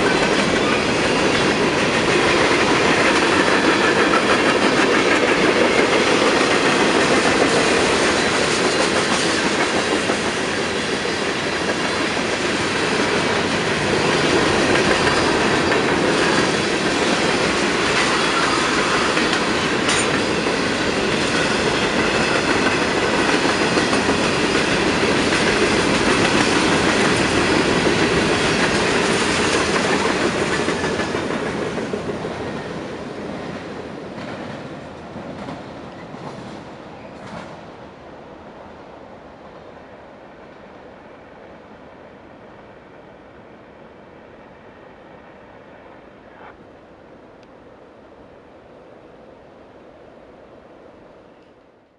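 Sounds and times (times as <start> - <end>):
freight train rolling on rails: 0.0 - 51.6.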